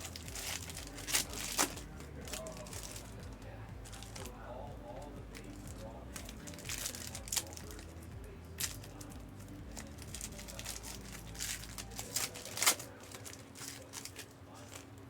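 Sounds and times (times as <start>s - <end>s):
foil wrappers tearing and crinkling: 0.0s - 3.2s, 5.4s - 8.0s, 8.6s - 15.0s.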